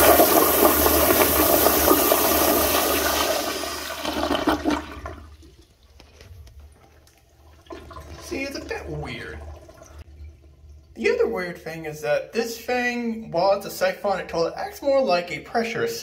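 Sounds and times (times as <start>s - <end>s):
toilet flushing: 0.0s - 13.9s.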